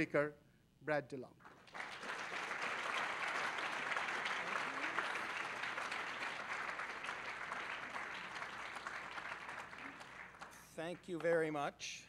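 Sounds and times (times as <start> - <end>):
audience applauding: 1.5 - 11.5.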